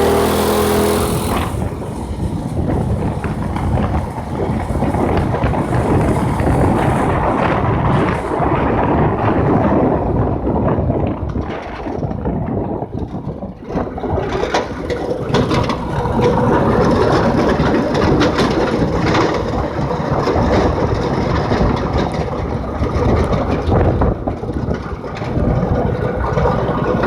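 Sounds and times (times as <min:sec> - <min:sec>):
go-kart engine rumbling: 0:00.0 - 0:27.0.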